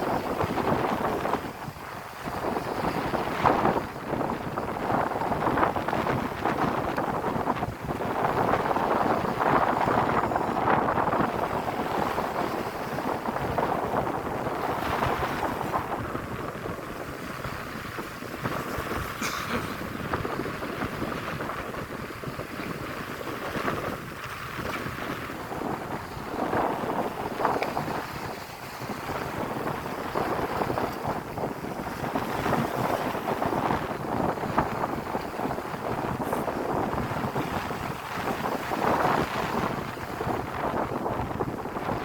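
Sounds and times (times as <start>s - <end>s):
sea rushing: 0.0s - 42.0s
wind gusting across microphone: 0.0s - 42.0s.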